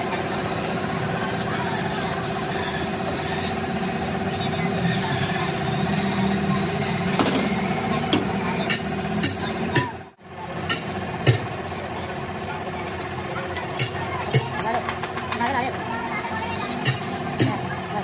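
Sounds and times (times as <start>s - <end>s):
engine-like hum: 0.0s - 18.0s.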